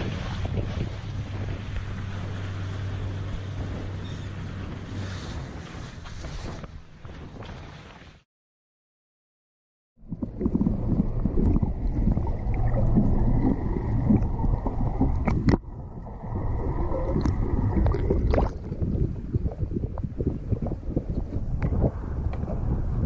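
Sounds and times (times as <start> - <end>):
muffled water rushing underwater: 0.0 - 8.0, 10.0 - 23.0.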